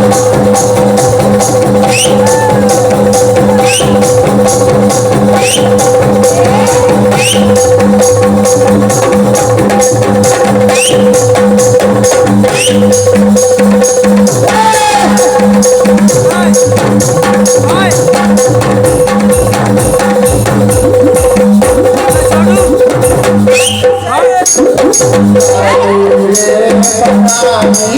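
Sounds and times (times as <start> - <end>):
fast percussion beat: 0.0 - 27.9.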